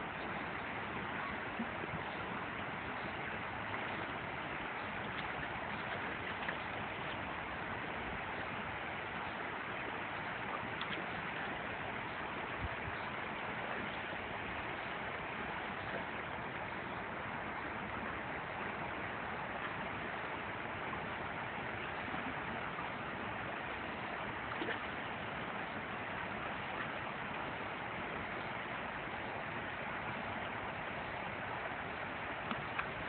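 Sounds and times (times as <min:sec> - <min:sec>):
creek water running over stones: 0:00.0 - 0:33.0.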